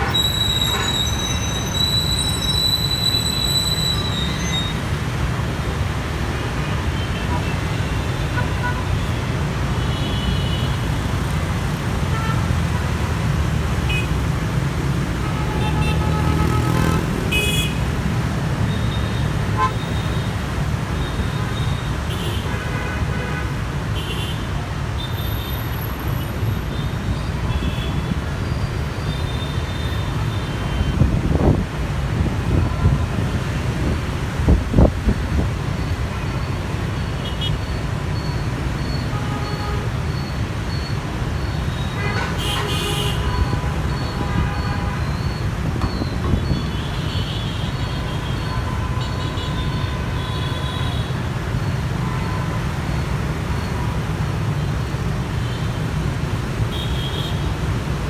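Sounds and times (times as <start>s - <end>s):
engine and tyre rumble: 0.0s - 22.4s, 24.6s - 58.0s.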